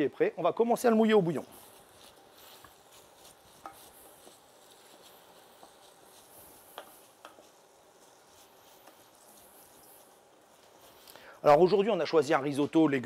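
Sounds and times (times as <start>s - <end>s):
faint sizzling hiss: 0.0s - 13.0s.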